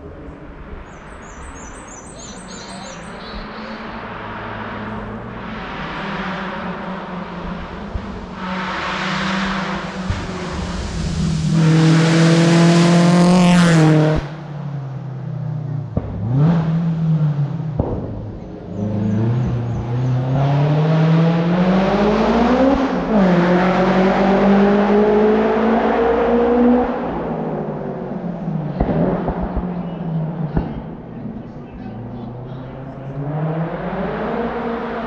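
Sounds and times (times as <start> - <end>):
race car engine accelerating: 3.2 - 14.4, 15.1 - 35.0.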